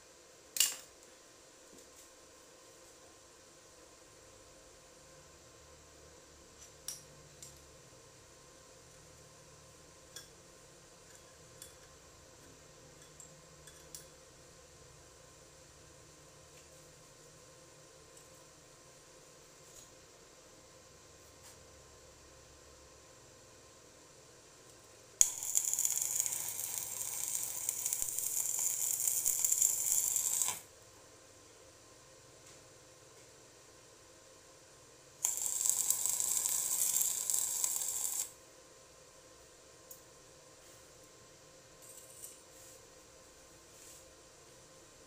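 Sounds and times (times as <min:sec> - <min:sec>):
steady high hiss: 0:00.0 - 0:11.0, 0:11.9 - 0:41.1
faint steady hum: 0:00.0 - 0:45.0.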